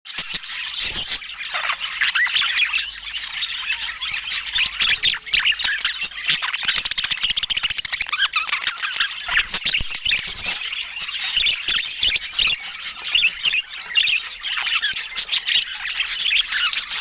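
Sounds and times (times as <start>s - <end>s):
budgerigar chatter: 0.1s - 17.0s.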